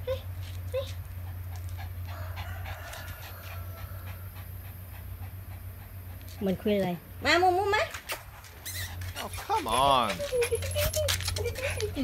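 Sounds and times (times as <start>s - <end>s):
small dog panting: 0.0s - 7.0s, 8.0s - 12.0s
steady low hum: 0.0s - 12.0s.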